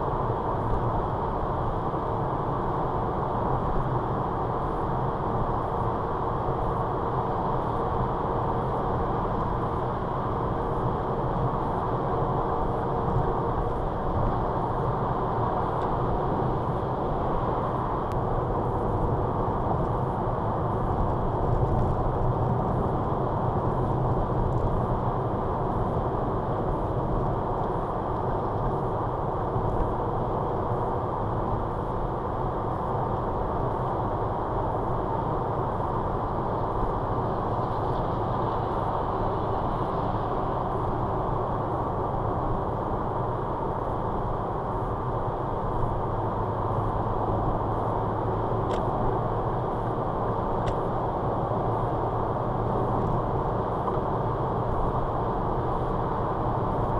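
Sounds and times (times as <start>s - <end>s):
car engine hum: 0.0s - 56.9s.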